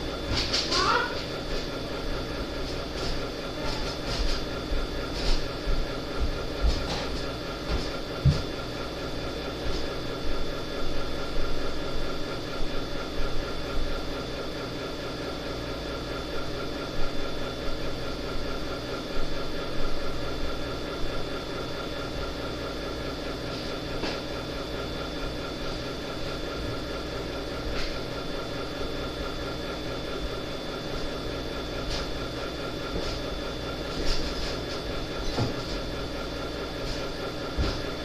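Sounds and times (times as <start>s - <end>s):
pulsing mechanical hum: 0.0s - 38.0s.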